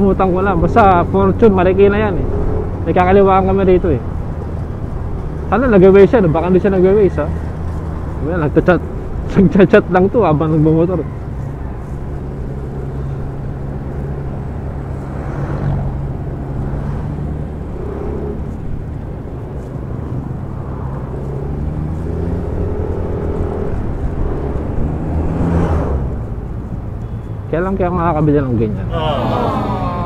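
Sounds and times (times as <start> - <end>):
rushing wind: 0.0 - 30.0.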